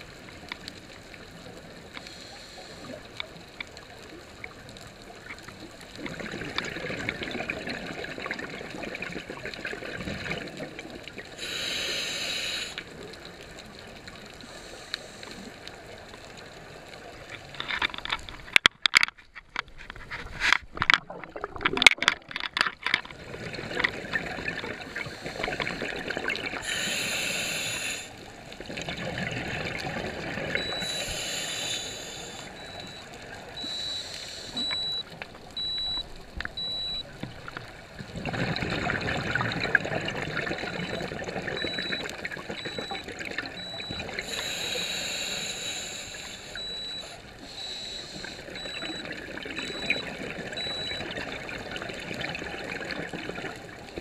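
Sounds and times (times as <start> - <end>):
scuba regulator exhaust bubbles: 4.2 - 16.1, 20.9 - 22.2, 23.1 - 54.0.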